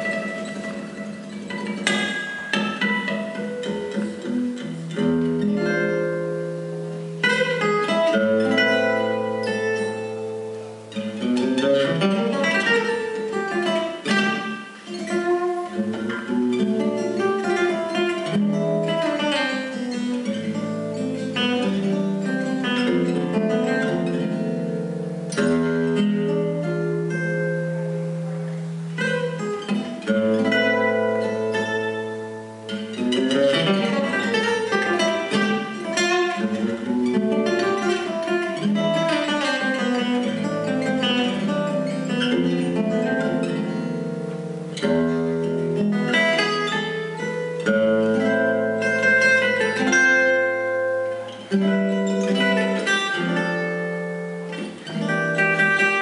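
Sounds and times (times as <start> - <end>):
gypsy jazz acoustic guitar: 0.0 - 56.0.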